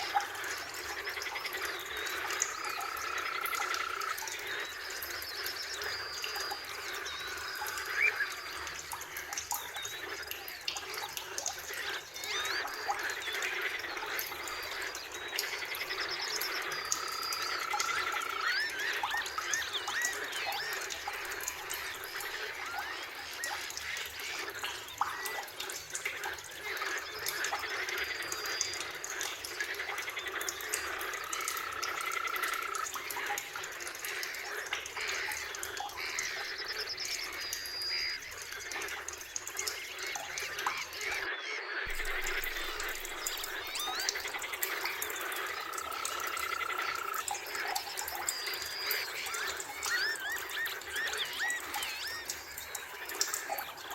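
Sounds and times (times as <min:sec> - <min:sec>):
birdsong: 0:00.0 - 0:53.9
frog calls: 0:00.0 - 0:53.9.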